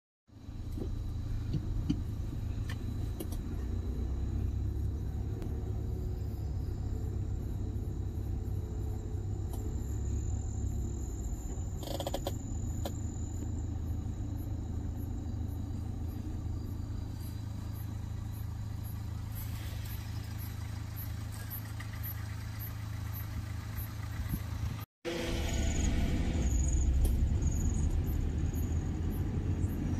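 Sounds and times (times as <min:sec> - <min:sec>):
car engine and road rumble: 0:00.3 - 0:29.9.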